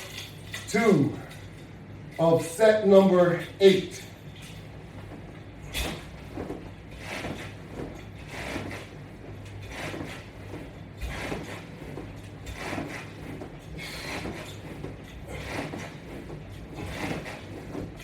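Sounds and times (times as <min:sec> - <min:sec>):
exercise repetition sound: 0:00.0 - 0:18.0
steady low hum: 0:00.0 - 0:18.0.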